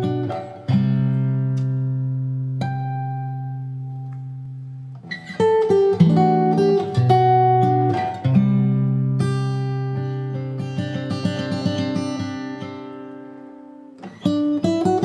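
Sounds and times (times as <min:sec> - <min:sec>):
guitar ballad: 0:00.0 - 0:15.0.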